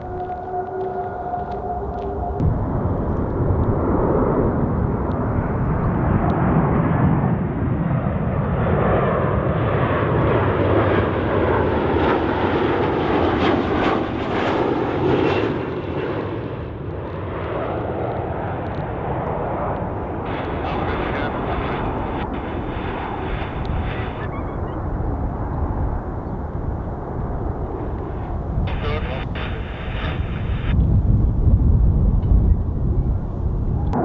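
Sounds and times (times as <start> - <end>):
jet airliner flying past: 0.0 - 34.0.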